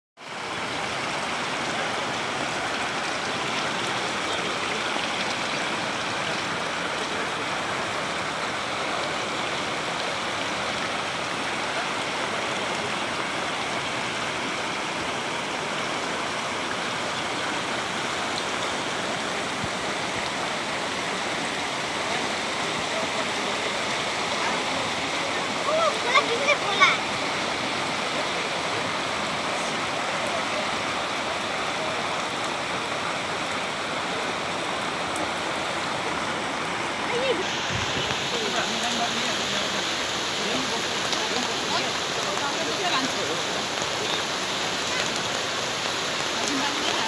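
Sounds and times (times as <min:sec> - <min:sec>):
floodwater rushing: 0:00.2 - 0:47.0.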